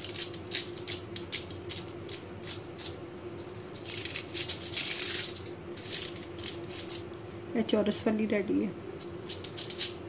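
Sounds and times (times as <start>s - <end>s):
aluminium foil crinkling: 0.0s - 7.1s, 9.0s - 10.0s
faint steady hum: 0.0s - 10.0s.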